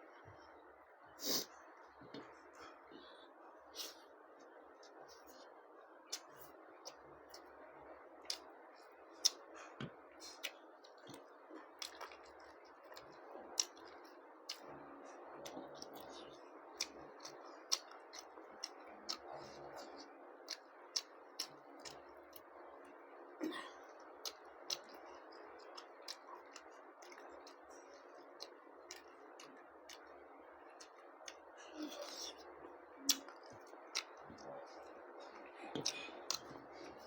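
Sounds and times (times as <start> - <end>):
mouth chewing food: 3.8 - 23.0, 23.8 - 37.0.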